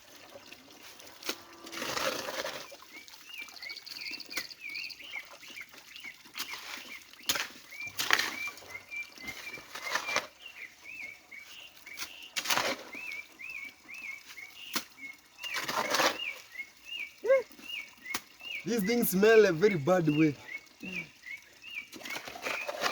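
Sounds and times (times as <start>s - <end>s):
rustling and splashing water: 0.0s - 22.9s.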